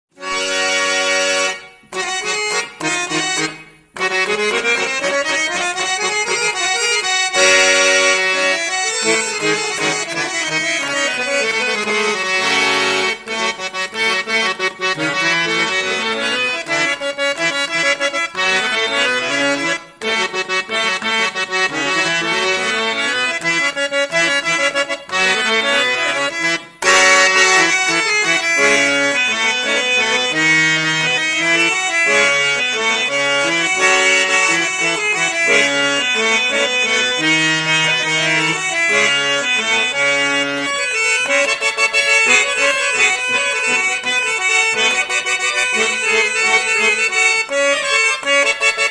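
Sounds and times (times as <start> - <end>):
harmonium playing chords: 0.1 - 48.9.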